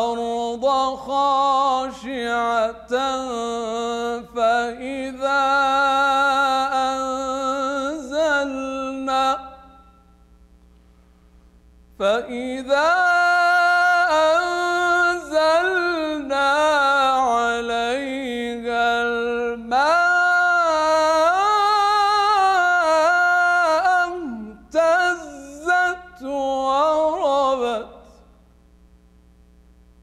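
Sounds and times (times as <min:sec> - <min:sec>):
man chanting: 0:00.0 - 0:09.9, 0:12.0 - 0:28.3.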